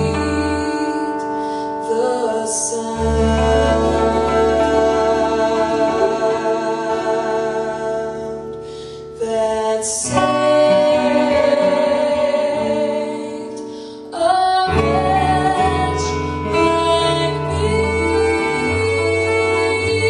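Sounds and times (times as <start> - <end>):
woman singing long notes: 0.0 - 8.6, 9.2 - 20.0
acoustic guitar: 0.0 - 20.0.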